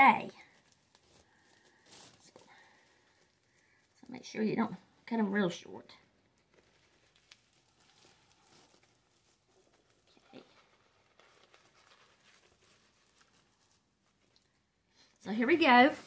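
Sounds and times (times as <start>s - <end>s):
faint rustling and handling: 0.0s - 16.0s.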